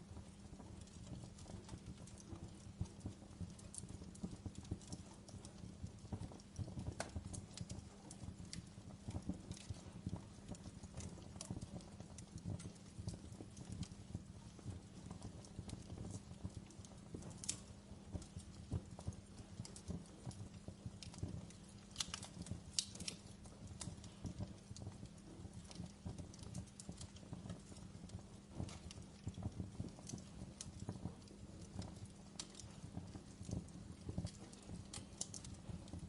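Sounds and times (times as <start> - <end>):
log fire crackling: 0.0 - 36.0.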